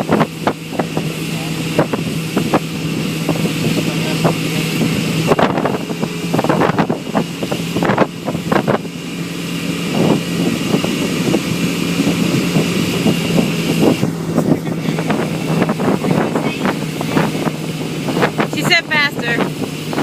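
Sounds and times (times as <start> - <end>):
boat motor running: 0.0 - 20.0
wind on microphone: 0.0 - 20.0.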